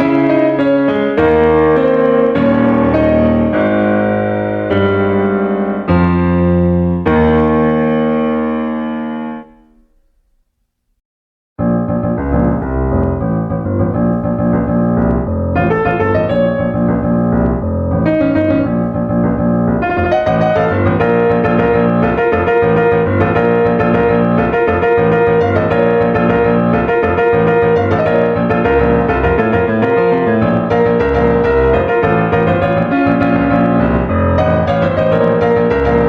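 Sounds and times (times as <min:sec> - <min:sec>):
piano music: 0:00.0 - 0:10.1, 0:11.6 - 0:36.0.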